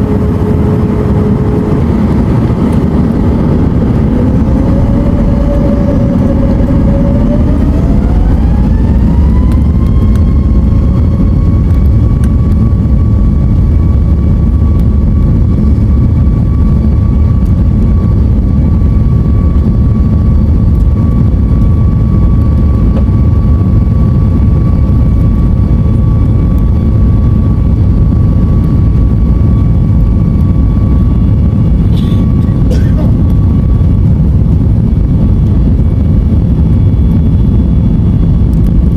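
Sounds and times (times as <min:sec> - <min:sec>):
deep engine rumble: 0:00.0 - 0:38.9
jet engines whining: 0:00.0 - 0:38.9.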